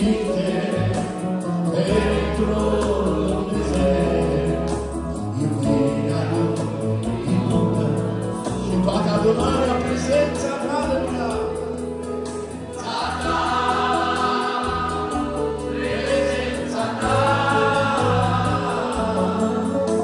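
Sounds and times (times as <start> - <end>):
male group singing a hymn: 0.0 - 10.7, 12.6 - 20.0
accordion: 0.0 - 20.0.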